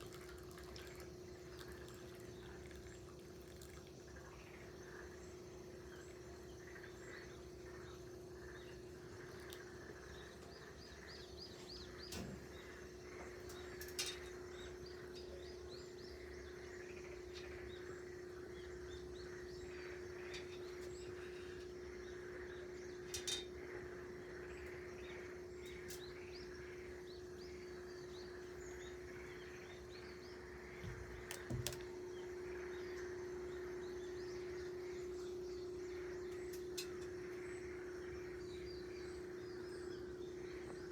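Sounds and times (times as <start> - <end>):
small birds chirping: 0.0 - 40.9
steady low hum: 0.0 - 40.9.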